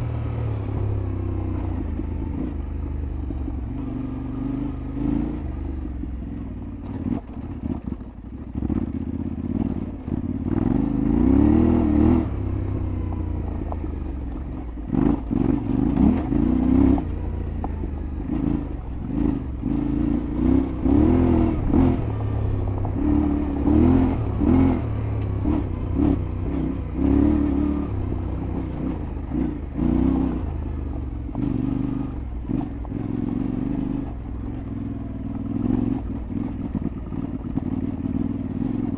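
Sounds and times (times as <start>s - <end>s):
motorcycle engine revving: 0.0s - 38.9s
knocks and clatter over rough ground: 0.6s - 38.9s.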